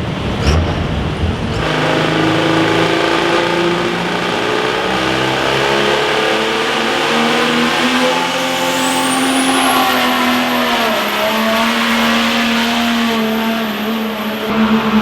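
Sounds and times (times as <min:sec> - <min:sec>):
vehicle engine running loud: 0:00.0 - 0:15.0
thin high whine: 0:01.6 - 0:15.0.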